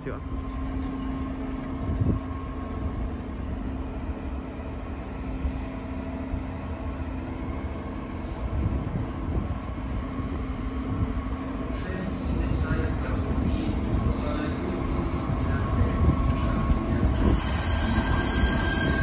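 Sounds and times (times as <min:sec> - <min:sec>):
diesel train engine running: 0:00.0 - 0:19.0.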